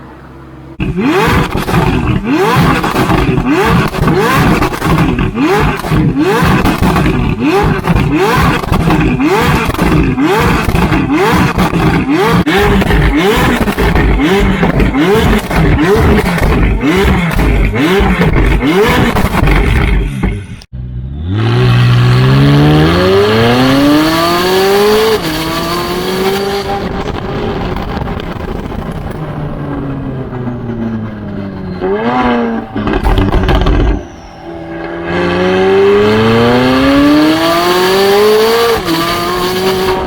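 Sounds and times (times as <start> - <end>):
car engine revving hard: 0.8 - 28.8, 31.8 - 40.0.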